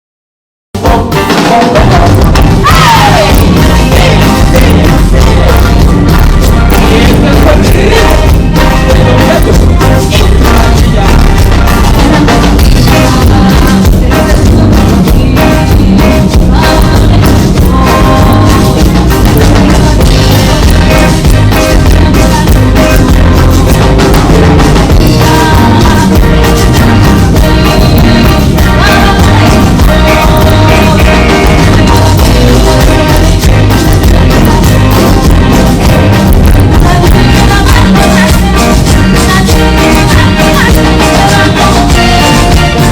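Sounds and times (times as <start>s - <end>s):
drum kit steady beat: 0.7s - 42.9s
loud band music: 0.7s - 42.9s.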